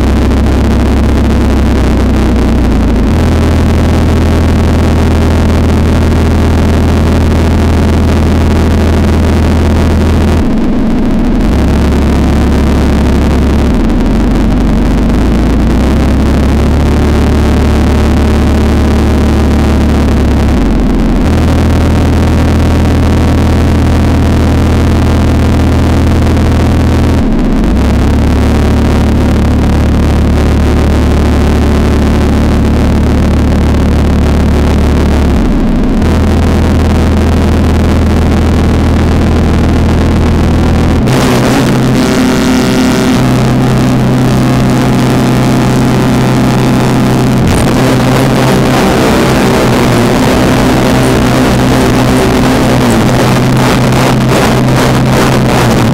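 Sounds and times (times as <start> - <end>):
electronic drone music: 0.0 - 55.9.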